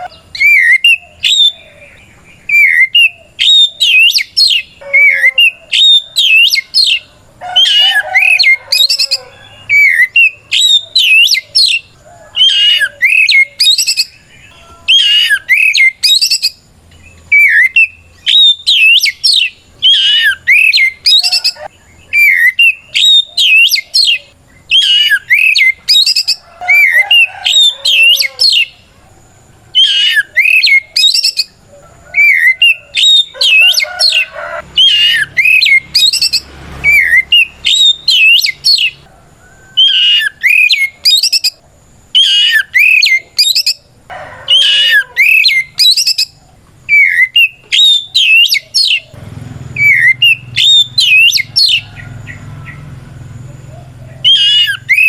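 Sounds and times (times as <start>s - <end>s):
bird singing whistles and warbles: 0.0s - 28.8s, 29.7s - 39.0s, 39.7s - 43.9s, 44.5s - 49.2s, 49.8s - 52.8s, 53.7s - 55.0s.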